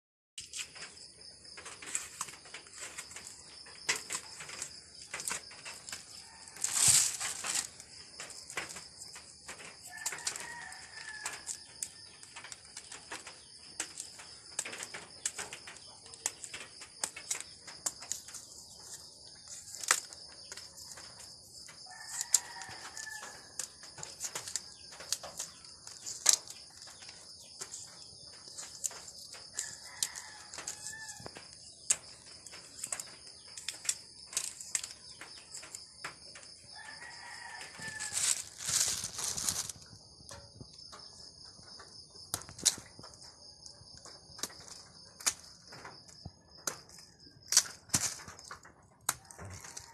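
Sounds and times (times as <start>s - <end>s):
night insects chorus: 0.4s - 49.9s.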